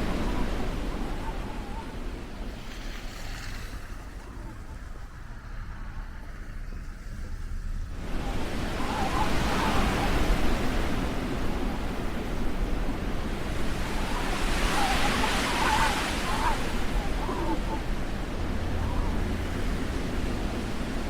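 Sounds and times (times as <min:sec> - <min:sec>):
wind rushing in snowstorm: 0:00.0 - 0:21.0.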